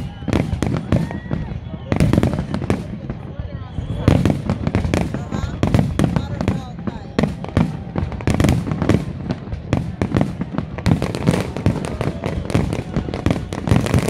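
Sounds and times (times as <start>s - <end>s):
fireworks exploding: 0.0s - 14.0s.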